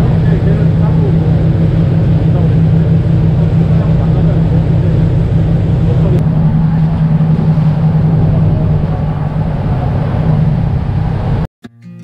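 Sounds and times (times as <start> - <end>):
churning water: 0.0 - 11.5
ferry engine drone: 0.0 - 11.5
wind rushing: 0.0 - 11.5.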